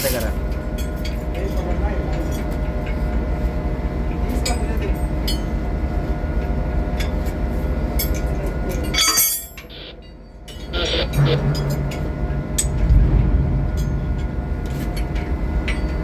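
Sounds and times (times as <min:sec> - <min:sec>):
heavy machinery drone: 0:00.3 - 0:16.0.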